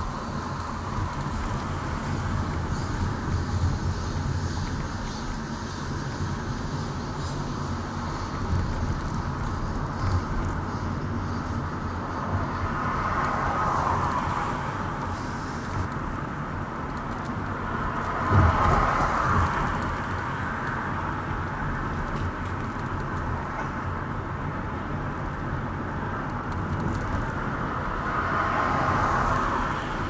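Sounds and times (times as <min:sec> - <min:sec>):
tyre and road noise: 0:00.0 - 0:30.0.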